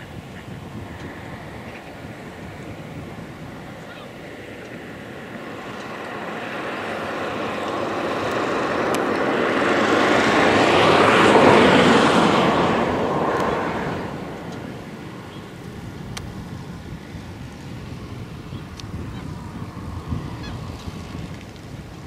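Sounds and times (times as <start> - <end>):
aircraft engine passing overhead: 0.0 - 22.0.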